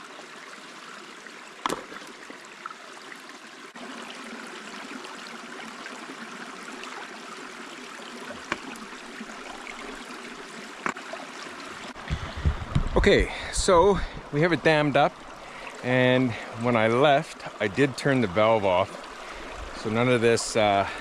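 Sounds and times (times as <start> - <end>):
creek running: 0.0 - 21.0.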